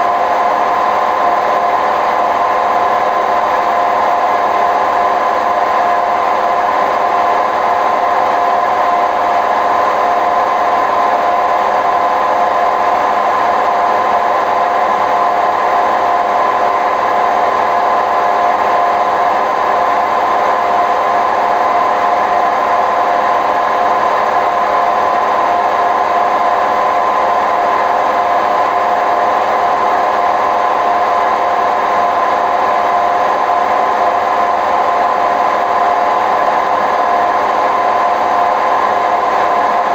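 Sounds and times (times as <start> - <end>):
steady mechanical whine: 0.0 - 39.9
washing machine spin rumble: 0.0 - 39.9.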